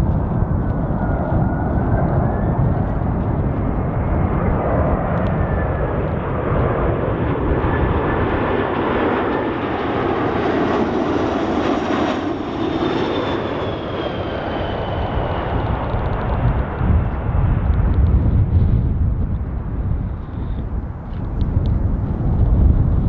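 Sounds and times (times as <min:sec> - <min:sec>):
jet airliner flying past: 0:00.0 - 0:23.0.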